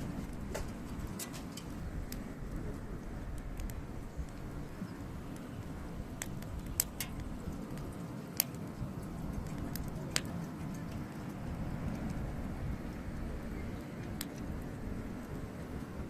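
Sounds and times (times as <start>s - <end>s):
campfire logs popping: 0.0s - 16.0s
fire low rumble: 0.0s - 16.0s.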